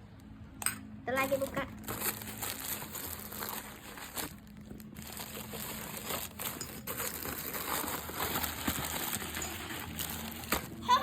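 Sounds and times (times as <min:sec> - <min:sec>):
packaging crinkling and rustling: 0:01.2 - 0:11.0.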